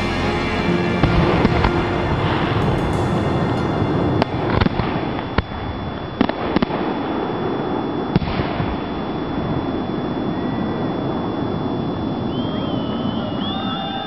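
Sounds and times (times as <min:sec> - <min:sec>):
background noise: 0:00.0 - 0:14.0.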